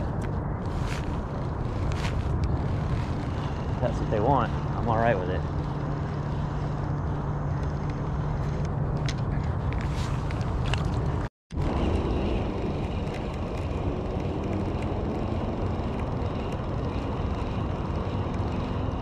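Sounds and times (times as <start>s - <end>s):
wind rumble on microphone: 0.0s - 19.0s
fishing reel cranking: 0.6s - 8.7s, 11.6s - 19.0s.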